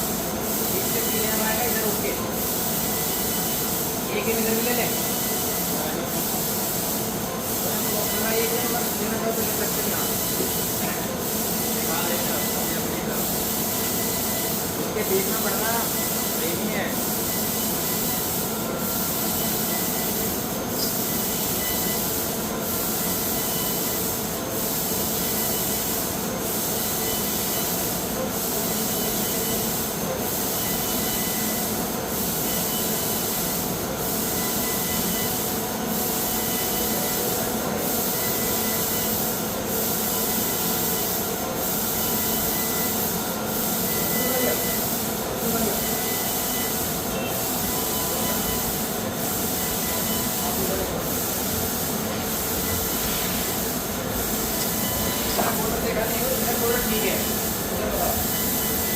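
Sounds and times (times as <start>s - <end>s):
laser cutting machine hissing: 0.0s - 58.9s.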